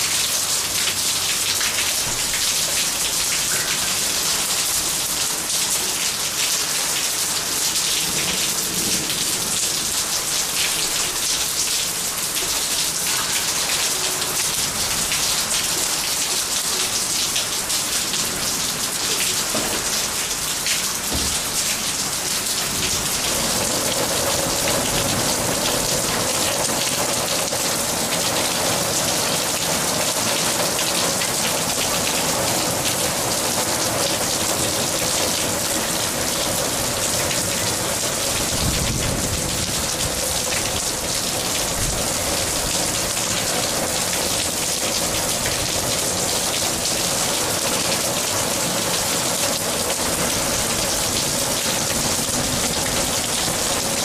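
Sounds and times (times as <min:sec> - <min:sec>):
heavy rain on concrete: 0:00.0 - 0:54.0.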